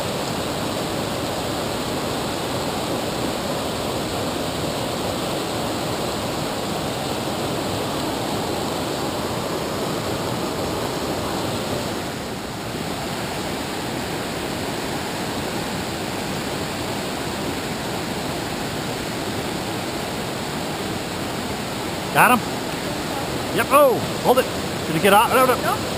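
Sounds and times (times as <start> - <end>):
river rapids rushing: 0.0 - 25.9.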